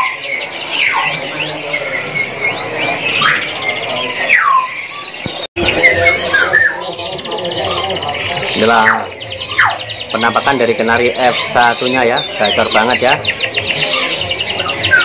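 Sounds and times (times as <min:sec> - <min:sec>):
canaries trilling and chirping: 0:00.0 - 0:15.0.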